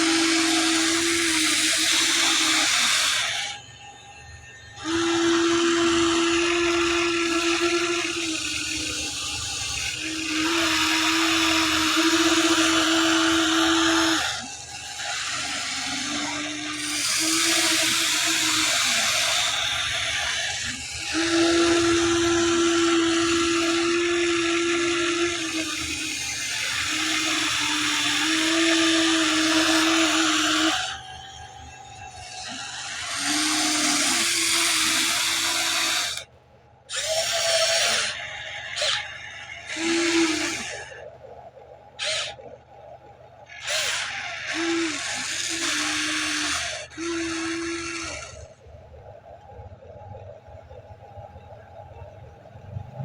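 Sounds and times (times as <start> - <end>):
toy excavator motors whining: 0.0 - 53.0.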